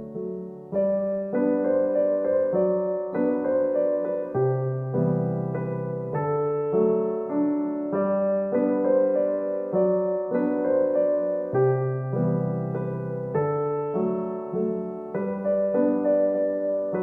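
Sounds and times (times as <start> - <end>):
slow piano piece: 0.0 - 17.0.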